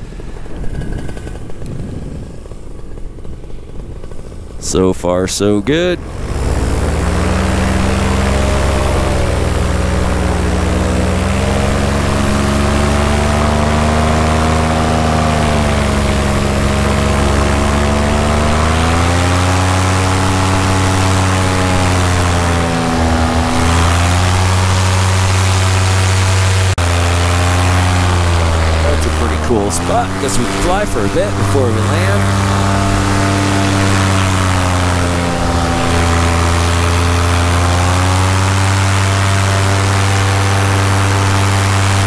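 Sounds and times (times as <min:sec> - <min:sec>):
paramotor engine and propeller: 0:00.0 - 0:42.0.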